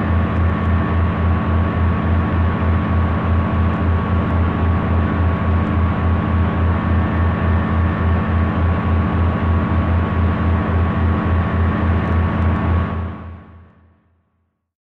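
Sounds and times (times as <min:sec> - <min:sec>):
mechanical drone with low throb: 0:00.0 - 0:13.7.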